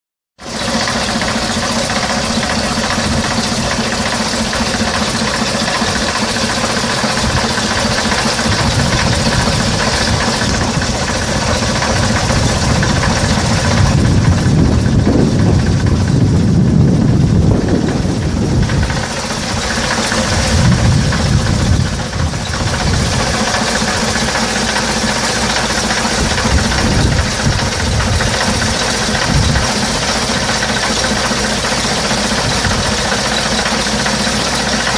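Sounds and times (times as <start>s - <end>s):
diesel bus engine idling: 0.4s - 34.9s.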